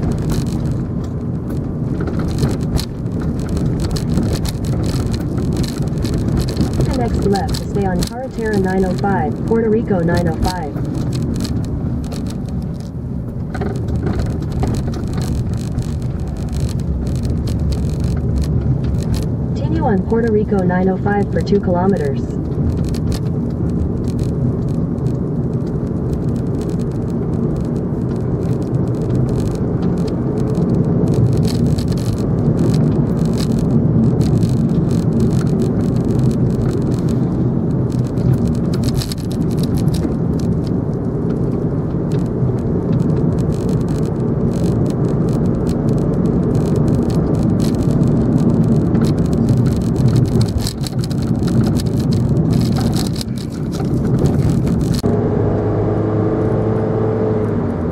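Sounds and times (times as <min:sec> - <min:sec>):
light ticks and rattles: 0:00.0 - 0:19.7, 0:22.4 - 0:55.1
engine and tyre drone: 0:00.0 - 0:57.9.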